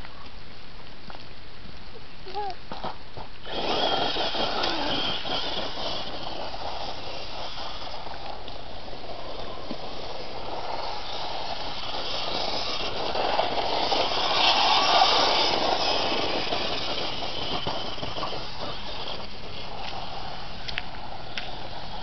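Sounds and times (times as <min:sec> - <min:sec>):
tyres hissing on dirt: 0:02.7 - 0:22.0
high electric motor whine: 0:03.4 - 0:22.0.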